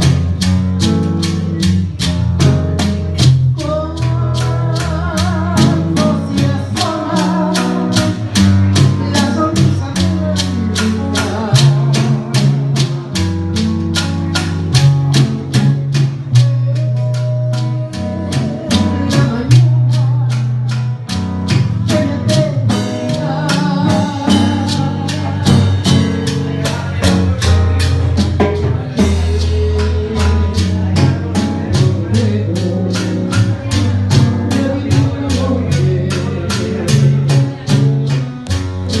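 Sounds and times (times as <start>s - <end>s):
bass line: 0.0s - 39.0s
guitar: 0.0s - 39.0s
percussion striking evenly: 0.0s - 39.0s
person singing: 3.2s - 39.0s.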